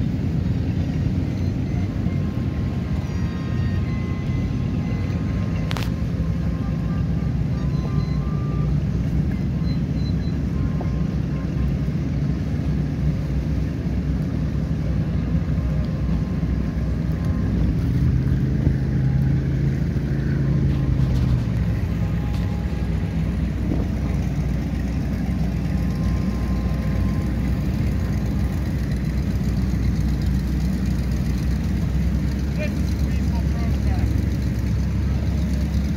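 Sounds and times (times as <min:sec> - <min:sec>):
motorboat engines droning: 0:00.0 - 0:35.9
wind: 0:00.0 - 0:35.9.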